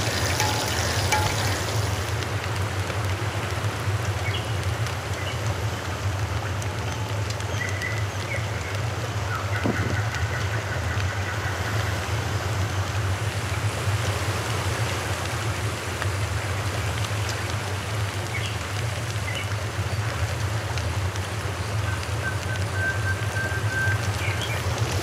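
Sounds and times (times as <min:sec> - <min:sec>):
fish deep-frying in oil: 0:00.0 - 0:25.0.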